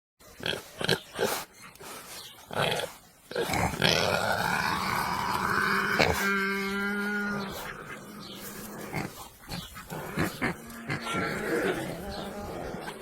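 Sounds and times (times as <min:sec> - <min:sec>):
pigs grunting: 0:00.4 - 0:13.0.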